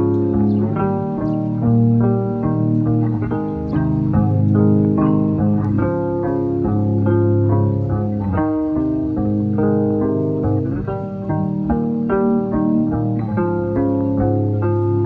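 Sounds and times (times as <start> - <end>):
bass line: 0.0 - 15.0
plucked guitar notes: 0.0 - 15.0.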